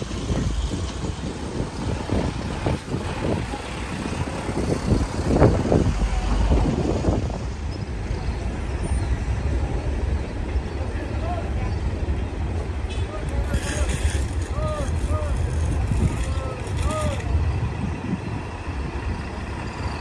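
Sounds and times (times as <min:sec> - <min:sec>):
diesel truck engine at low revs: 0:00.0 - 0:20.0.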